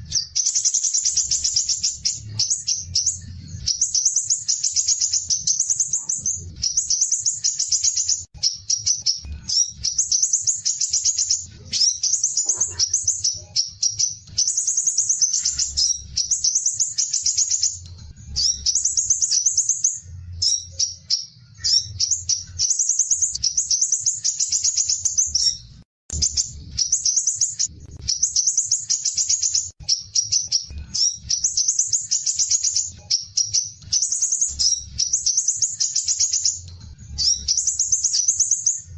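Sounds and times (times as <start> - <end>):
bird singing buzzy trills: 0.0 - 38.9.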